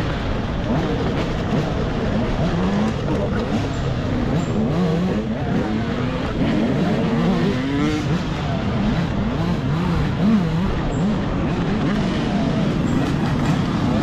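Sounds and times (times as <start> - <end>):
dirt bike engine revving: 0.0 - 14.0
rush of riding noise: 0.0 - 14.0.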